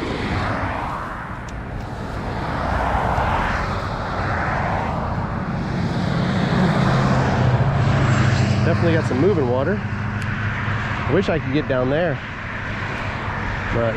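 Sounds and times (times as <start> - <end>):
low engine hum: 0.0 - 13.9
road traffic passing: 0.0 - 13.9.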